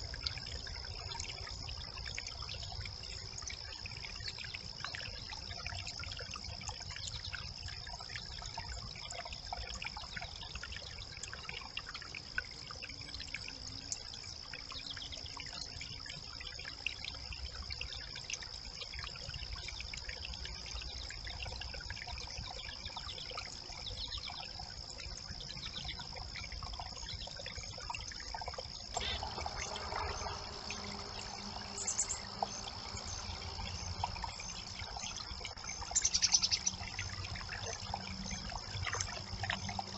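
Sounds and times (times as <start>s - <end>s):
water trickling over sticks: 0.0s - 39.9s.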